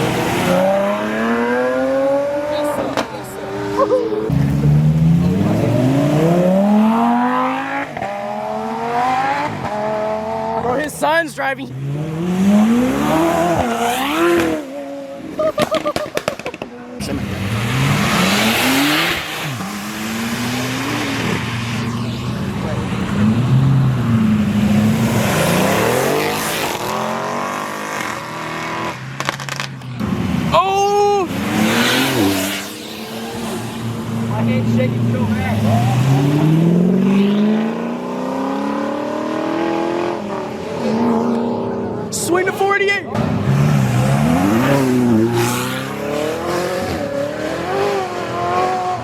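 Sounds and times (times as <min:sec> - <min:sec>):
car engine accelerating hard: 0:00.0 - 0:15.4, 0:16.1 - 0:49.0.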